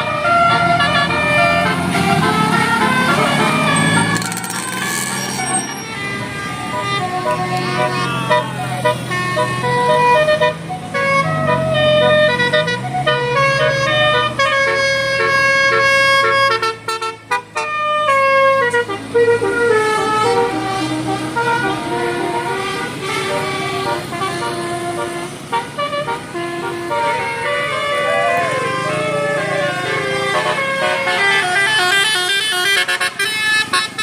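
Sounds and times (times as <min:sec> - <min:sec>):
bus engine running: 0:00.0 - 0:34.0
bus horn playing a melody: 0:00.0 - 0:34.0.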